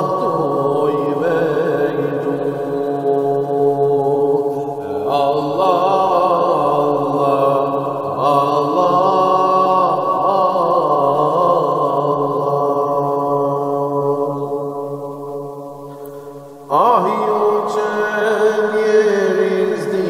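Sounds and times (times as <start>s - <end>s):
person chanting a hymn: 0.0s - 20.0s
steady held drone: 0.0s - 20.0s.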